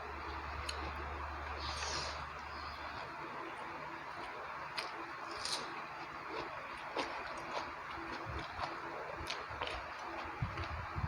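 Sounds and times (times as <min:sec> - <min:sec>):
person chewing food: 0:00.3 - 0:11.0.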